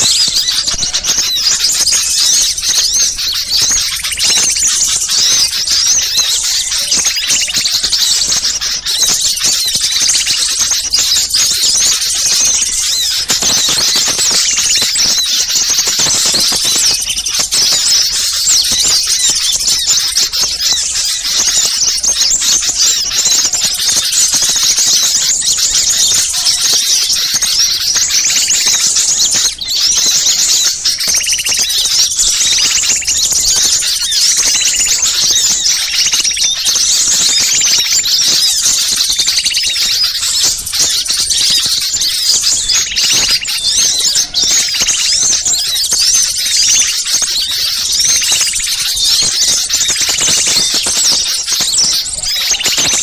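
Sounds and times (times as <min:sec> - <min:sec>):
low repeated bird notes: 0:00.0 - 0:53.0
small birds chattering: 0:00.0 - 0:53.0.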